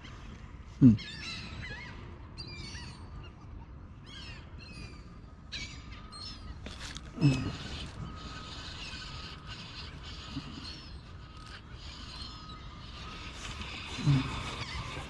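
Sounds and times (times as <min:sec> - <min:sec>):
birds chirping and squawking: 0:00.9 - 0:03.1, 0:04.0 - 0:15.0.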